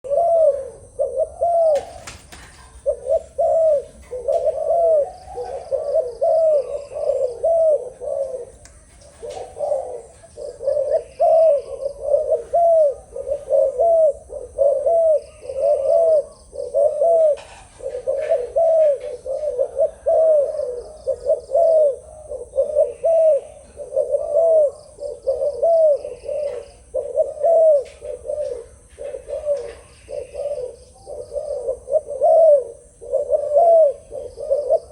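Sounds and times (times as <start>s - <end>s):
dove cooing: 0.0s - 34.9s.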